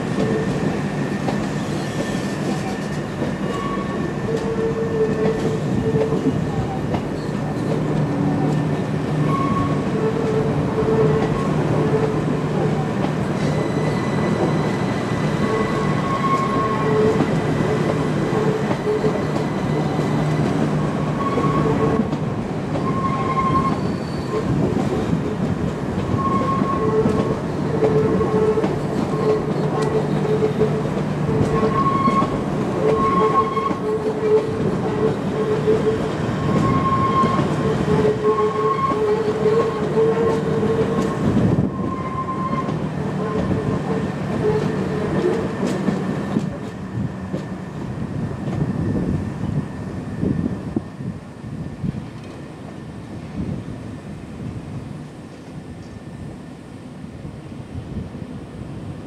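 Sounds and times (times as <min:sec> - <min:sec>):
train moving on rails: 0:00.0 - 0:59.0.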